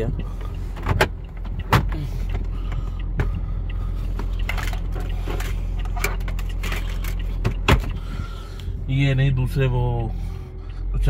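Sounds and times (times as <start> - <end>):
car engine hum from cabin: 0.0 - 11.0.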